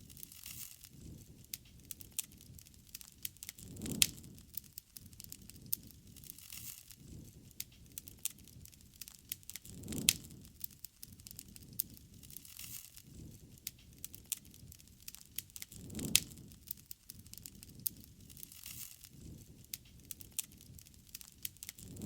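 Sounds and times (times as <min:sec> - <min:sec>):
campfire crackling: 0:00.0 - 0:22.0
fire popping and snapping: 0:00.0 - 0:22.0.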